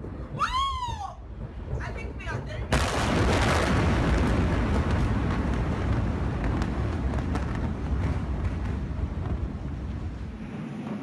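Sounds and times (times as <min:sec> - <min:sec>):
deep explosion rumble: 0:00.0 - 0:11.0.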